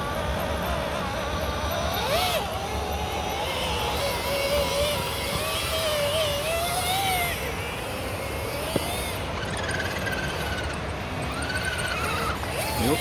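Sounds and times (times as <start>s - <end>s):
electric motor and gears whining: 0.0s - 13.0s
noisy background: 0.0s - 13.0s.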